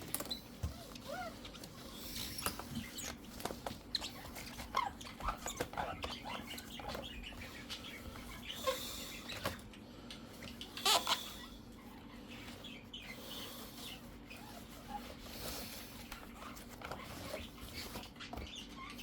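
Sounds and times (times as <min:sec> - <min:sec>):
tissue rubbing and squeaking on plastic: 0:00.0 - 0:09.5, 0:10.8 - 0:19.0.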